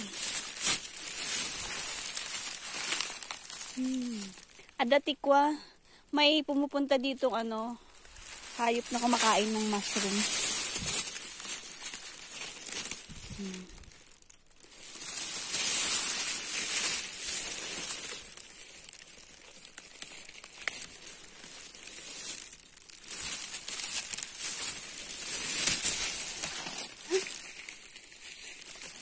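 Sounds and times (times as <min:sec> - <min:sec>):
rustling forest undergrowth: 0:00.0 - 0:05.1, 0:06.5 - 0:29.0.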